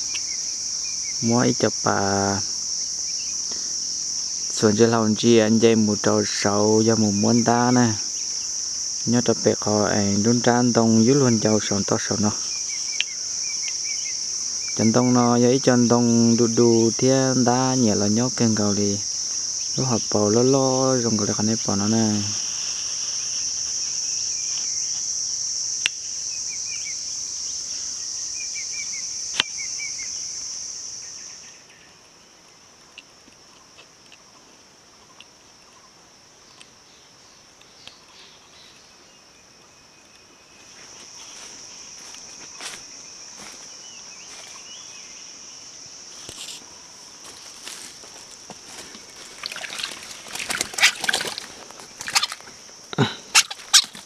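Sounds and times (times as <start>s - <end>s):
high-pitched insect drone: 0.0s - 32.4s, 40.5s - 54.0s.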